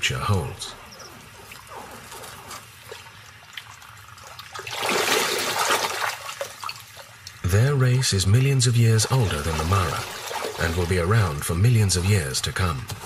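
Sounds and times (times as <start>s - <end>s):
water splashing and sloshing: 0.8s - 7.4s, 8.7s - 13.0s.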